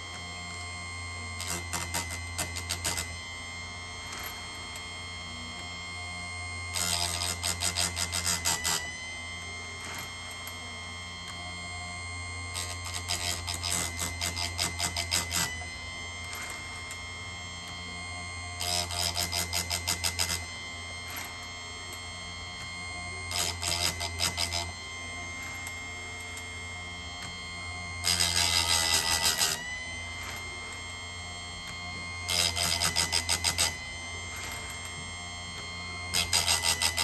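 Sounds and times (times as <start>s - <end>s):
grinder motor hum and whine: 0.0s - 37.0s.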